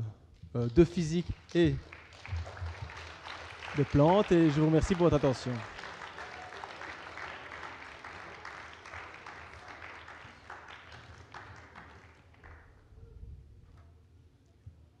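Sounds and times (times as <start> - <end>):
audience applauding: 0.6 - 12.8.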